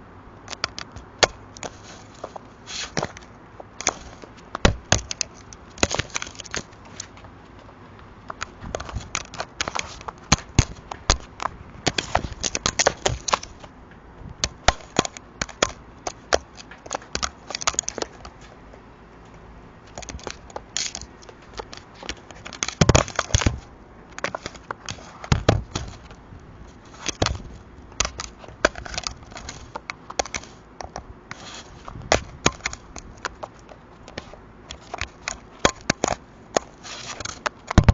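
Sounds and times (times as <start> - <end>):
crow pecking on plastic: 0.5 - 18.6, 19.8 - 37.9.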